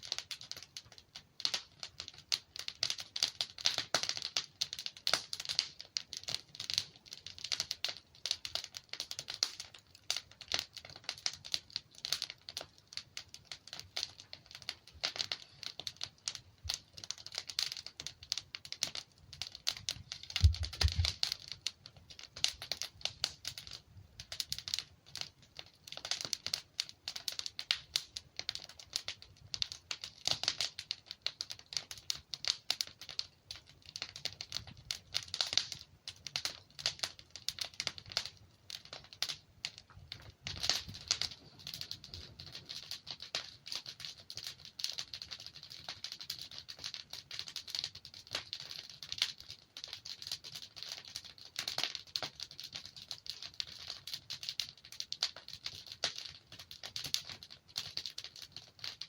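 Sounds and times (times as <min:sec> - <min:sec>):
log fire crackling and popping: 0:00.0 - 0:59.0.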